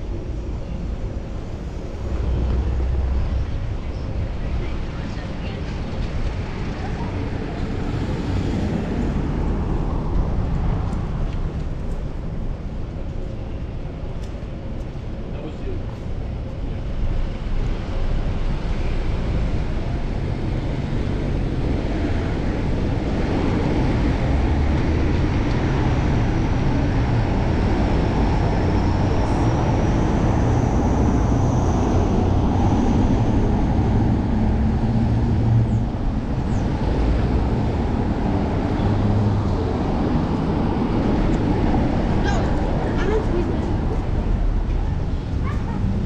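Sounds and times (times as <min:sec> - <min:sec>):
road noise from bicycle: 0:00.0 - 0:46.0
wind buffeting: 0:00.0 - 0:46.0.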